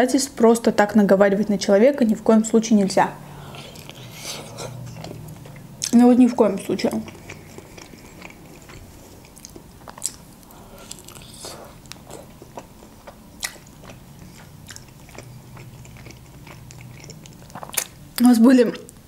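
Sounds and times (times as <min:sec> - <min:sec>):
chewing: 0:03.3 - 0:19.0.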